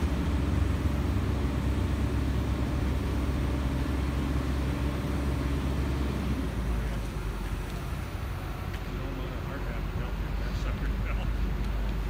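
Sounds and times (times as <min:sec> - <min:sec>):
crane engine rumbling: 0:00.0 - 0:12.0.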